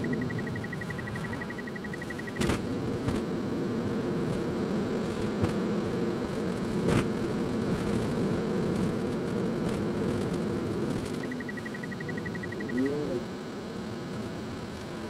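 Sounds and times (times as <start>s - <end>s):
car interior road drone: 0.0s - 15.0s.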